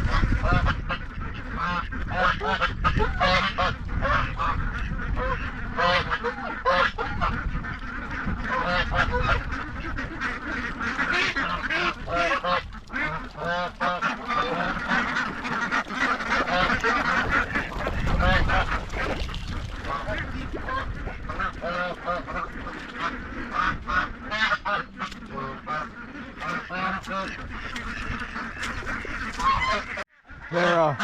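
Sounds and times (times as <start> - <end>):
geese honking and ducks quacking: 0.0 - 31.0.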